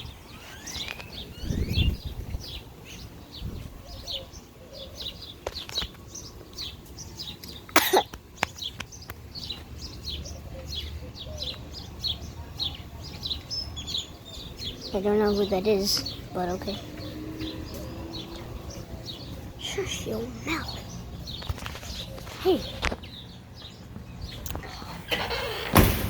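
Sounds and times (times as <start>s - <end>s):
small birds chirping: 0.0s - 25.6s.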